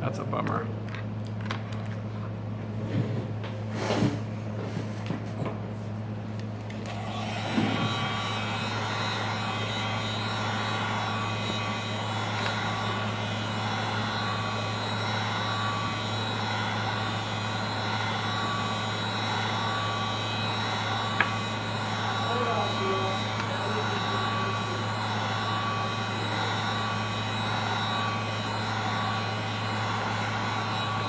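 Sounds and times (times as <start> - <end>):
heat gun fan hum: 0.0 - 2.7, 3.5 - 31.0.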